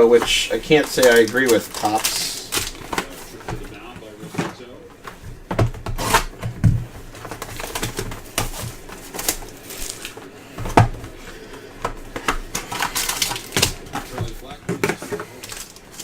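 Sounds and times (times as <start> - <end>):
trading cards and plastic holders handled: 0.0 - 16.0.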